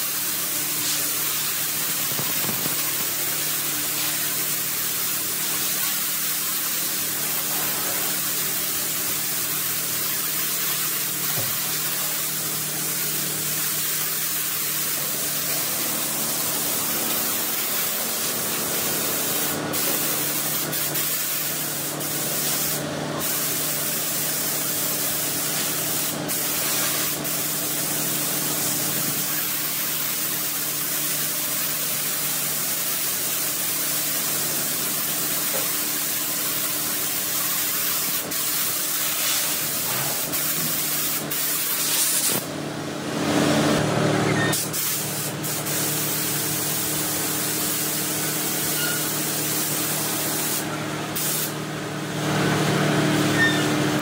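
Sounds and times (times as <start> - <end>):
spray gun hissing: 0.0 - 42.5, 44.5 - 51.6.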